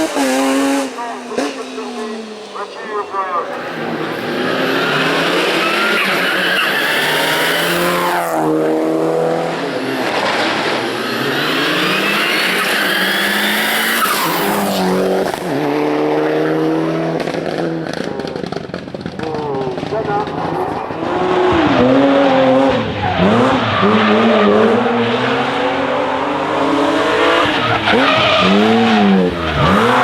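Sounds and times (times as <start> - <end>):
race car engine revving: 0.0 - 30.0.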